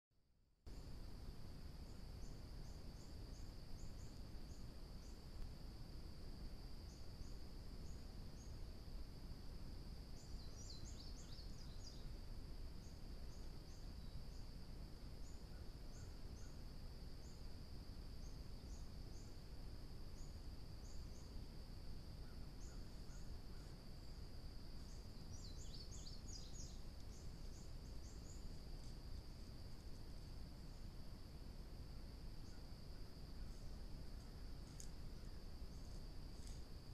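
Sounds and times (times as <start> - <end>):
insect chirps: 0.7 - 36.9
insect trill: 0.7 - 36.9
low background rumble: 0.7 - 36.9.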